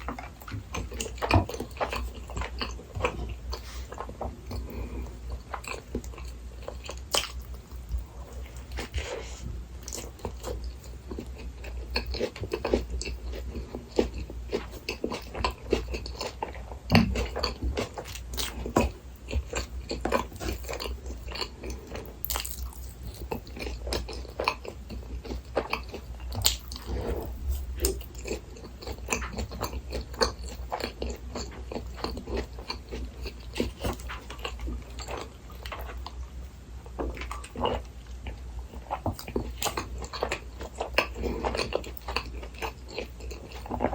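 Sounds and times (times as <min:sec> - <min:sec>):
crunchy chewing: 0:00.0 - 0:43.9
low steady hum: 0:00.0 - 0:43.9.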